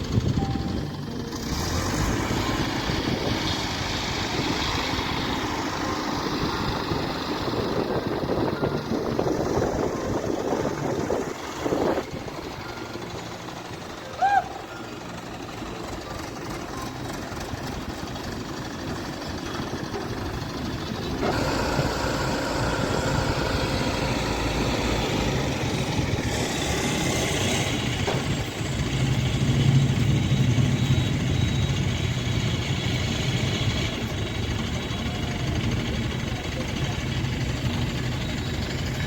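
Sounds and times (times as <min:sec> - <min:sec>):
crane diesel engine revving: 0:00.0 - 0:39.0.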